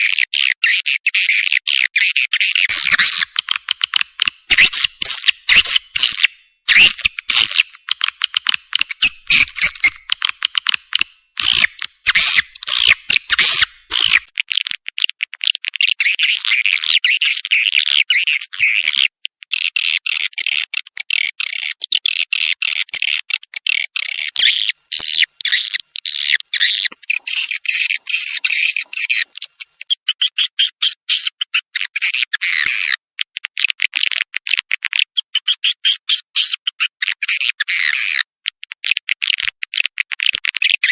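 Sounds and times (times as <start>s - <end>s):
recorded swiftlet calls: 0.0s - 33.0s.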